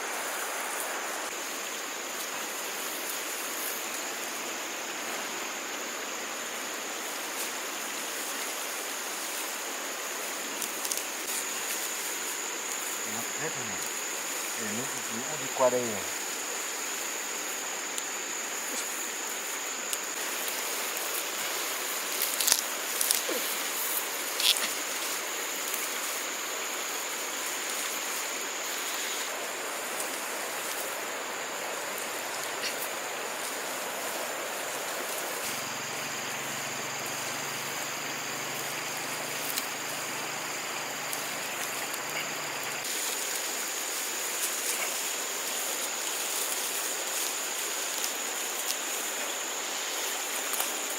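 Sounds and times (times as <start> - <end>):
floodwater rushing: 0.0 - 50.9
high insect drone: 0.0 - 50.9.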